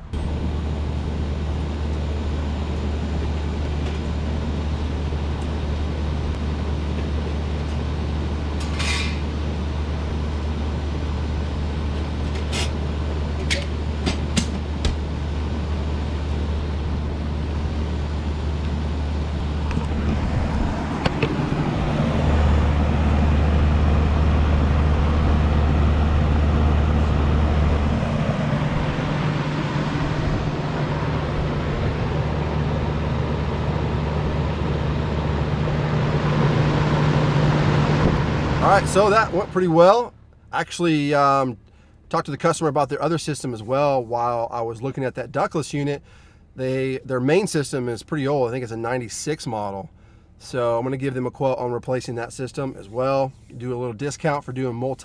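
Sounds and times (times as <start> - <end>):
vehicle road and engine drone: 0.0 - 44.1.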